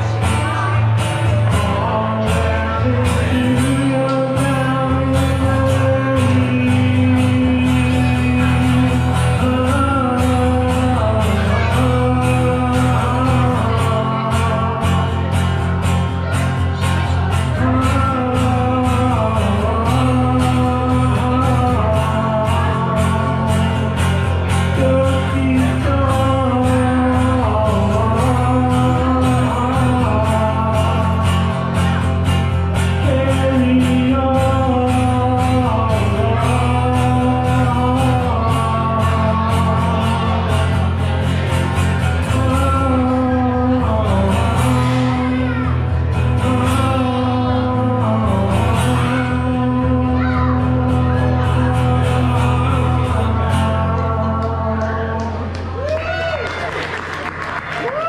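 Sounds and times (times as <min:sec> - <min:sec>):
person singing: 0:00.0 - 0:55.9
low bass line: 0:00.0 - 0:56.0
guitar: 0:00.0 - 0:58.0.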